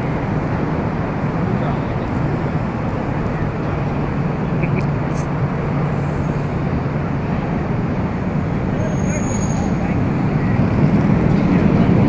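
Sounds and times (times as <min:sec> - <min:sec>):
low engine drone: 0:00.0 - 0:12.0
road traffic noise: 0:00.0 - 0:12.0.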